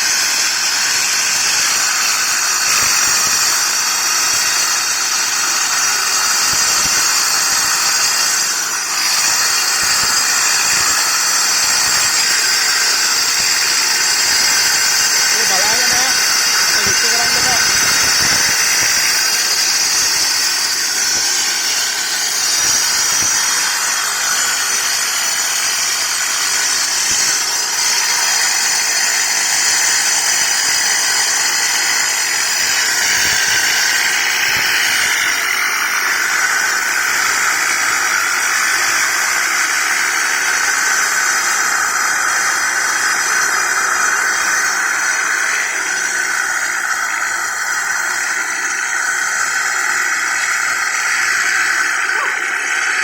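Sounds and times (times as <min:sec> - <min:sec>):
angle grinder whining: 0:00.0 - 0:53.0.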